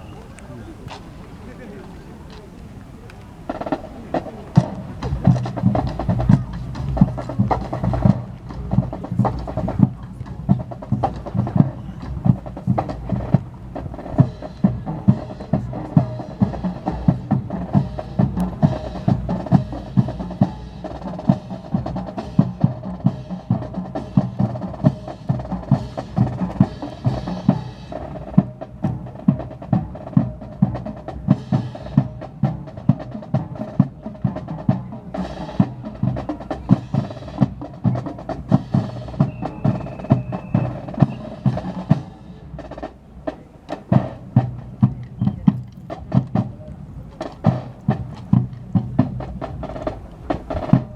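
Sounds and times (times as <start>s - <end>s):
snare drum marching cadence: 0.0s - 50.9s.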